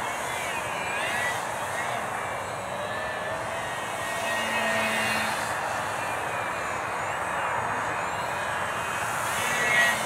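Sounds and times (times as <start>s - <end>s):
model plane motor whine: 0.0s - 10.0s.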